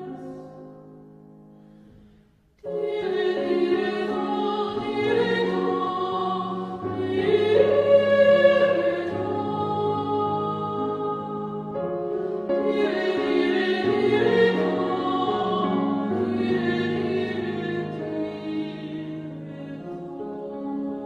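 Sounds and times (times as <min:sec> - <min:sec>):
mixed choir singing: 0:00.0 - 0:00.5, 0:02.6 - 0:21.0.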